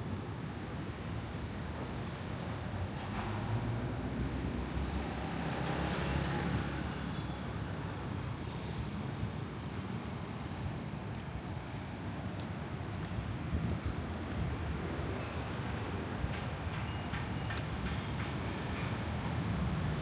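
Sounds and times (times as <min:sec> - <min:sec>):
low rumble of traffic: 0:00.0 - 0:20.0.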